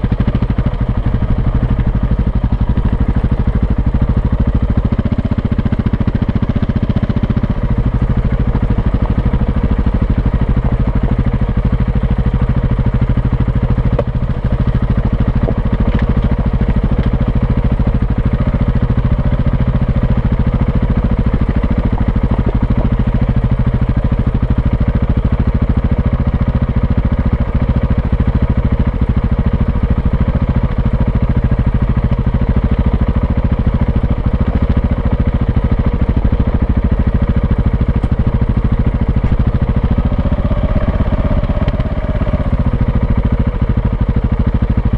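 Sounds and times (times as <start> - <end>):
motorcycle engine at low revs: 0.0 - 44.9.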